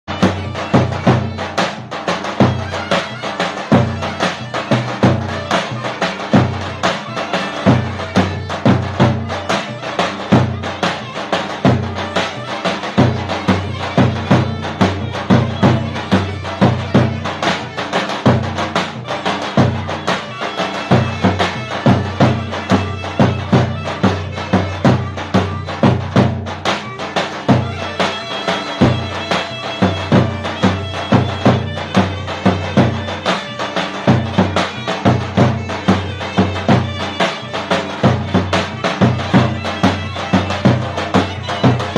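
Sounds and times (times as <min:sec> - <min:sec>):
reedy wind instrument melody: 0:00.1 - 0:41.9
steady drum beat: 0:00.1 - 0:41.9.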